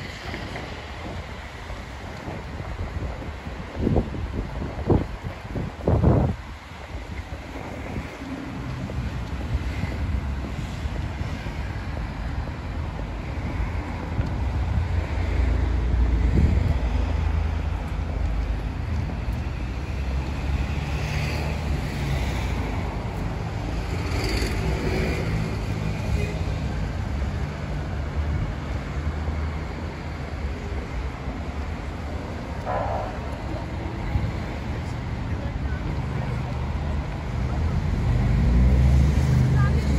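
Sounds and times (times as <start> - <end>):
cars passing: 0.0 - 39.9
steady low traffic rumble: 0.0 - 39.9.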